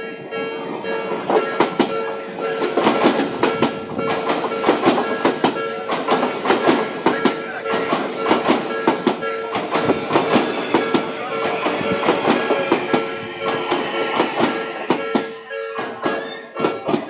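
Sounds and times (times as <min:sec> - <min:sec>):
crossing warning bell ringing: 0:00.0 - 0:17.0
train wheels clacking: 0:00.9 - 0:17.0.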